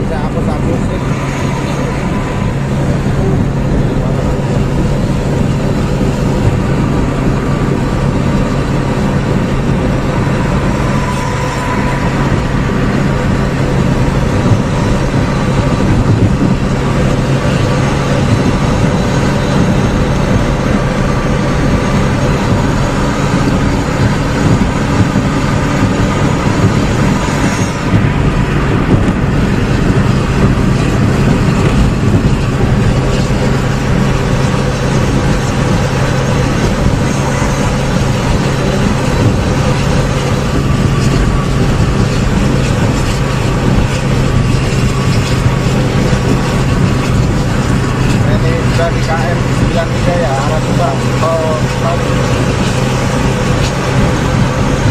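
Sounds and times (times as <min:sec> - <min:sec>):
tyre and road noise: 0:00.0 - 0:54.9
vehicle engine drone: 0:00.0 - 0:54.9.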